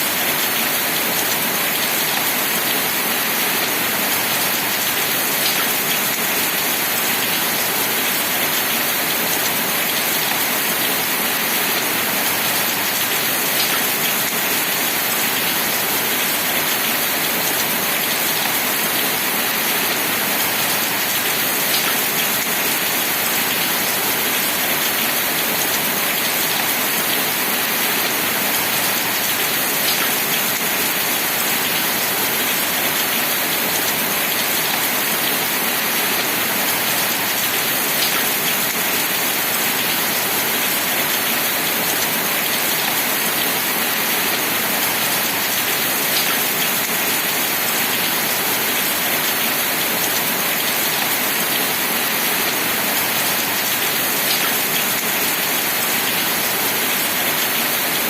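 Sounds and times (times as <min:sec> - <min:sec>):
heavy rain falling: 0:00.1 - 0:58.0.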